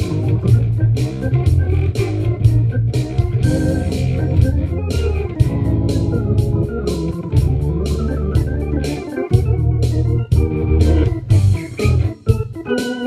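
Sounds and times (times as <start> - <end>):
low bass line: 0.0 - 12.2
organ-like keyboard chords: 0.0 - 13.0.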